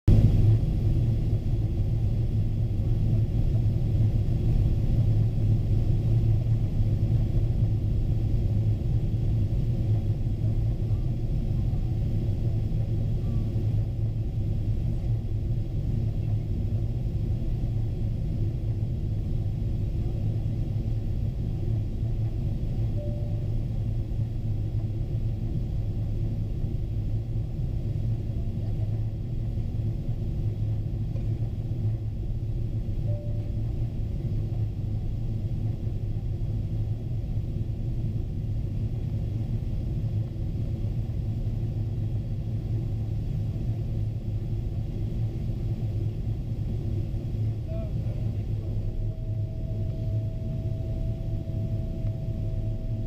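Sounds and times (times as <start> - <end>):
airplane cabin engine rumble: 0.0 - 53.0.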